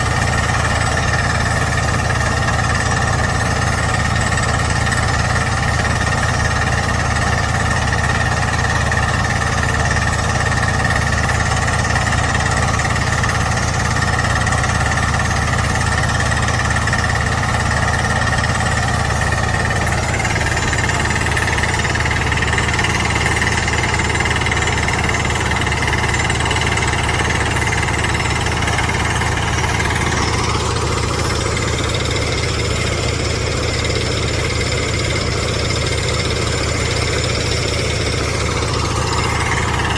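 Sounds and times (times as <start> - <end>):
rig engine running: 0.0 - 39.9
rock drill hammering: 0.0 - 39.9.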